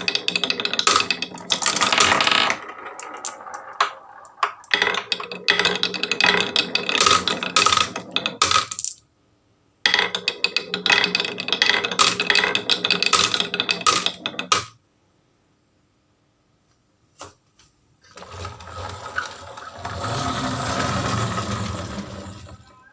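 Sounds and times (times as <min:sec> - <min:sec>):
marbles clattering down marble run: 0:00.0 - 0:09.0, 0:09.9 - 0:14.8, 0:18.2 - 0:22.9.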